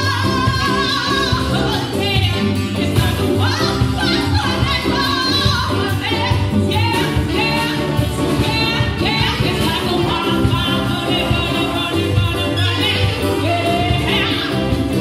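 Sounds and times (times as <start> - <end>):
bass guitar: 0.0 - 15.0
drum kit: 0.0 - 15.0
saxophone: 0.0 - 15.0.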